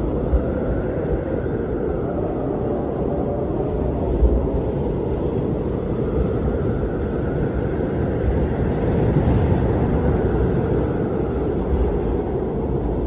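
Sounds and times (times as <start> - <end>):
howling wind: 0.0 - 13.0.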